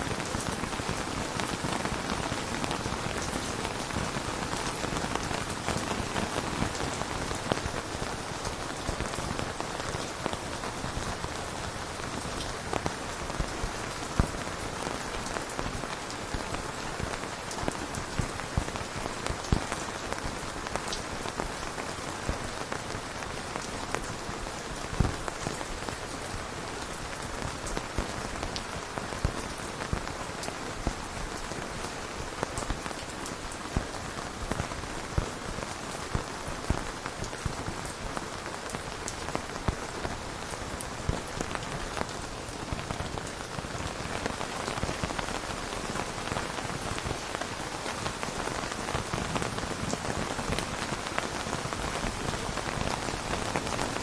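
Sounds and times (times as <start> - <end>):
rain falling: 0.0 - 54.0
raindrops hitting a surface: 0.0 - 54.0.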